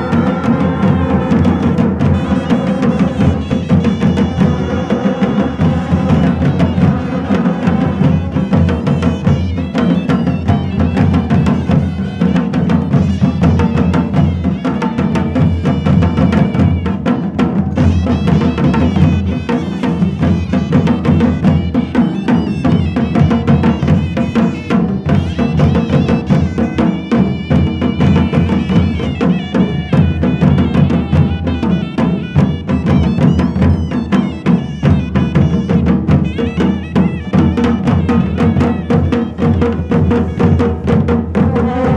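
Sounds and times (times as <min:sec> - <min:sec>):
drums beaten densely: 0:00.0 - 0:41.9.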